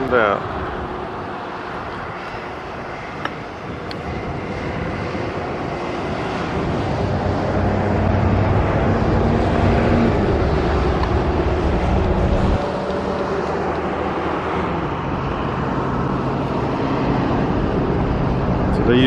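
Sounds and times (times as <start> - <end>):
low engine rumble: 0.0 - 19.0
steady low hum: 0.0 - 19.0.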